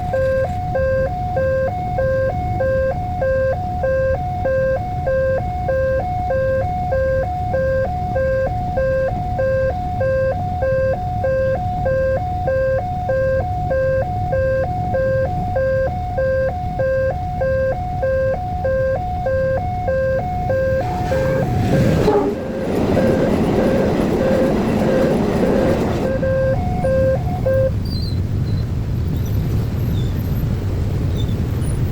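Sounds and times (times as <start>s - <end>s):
level-crossing two-tone alarm: 0.0s - 27.7s
train rumble and wheel noise: 0.0s - 31.9s.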